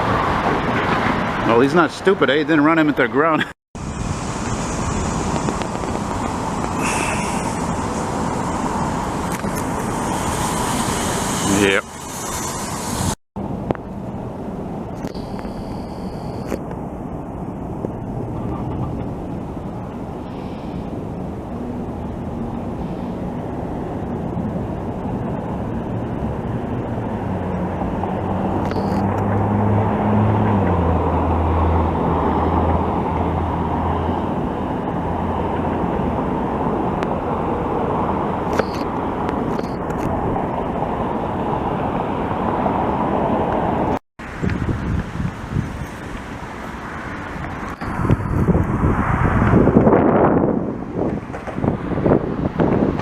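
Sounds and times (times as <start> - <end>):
traffic: 0.0 - 53.0
wind: 0.0 - 53.0
passing vehicle engine hum: 3.8 - 15.4, 16.6 - 53.0.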